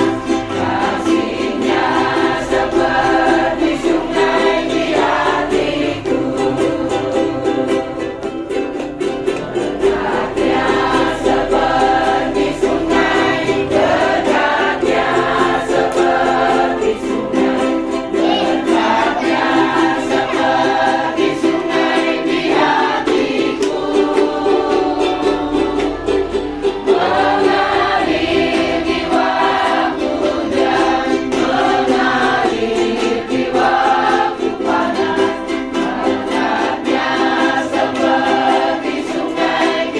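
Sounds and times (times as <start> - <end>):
choir singing: 0.0 - 39.9
strummed instrument: 0.0 - 39.9.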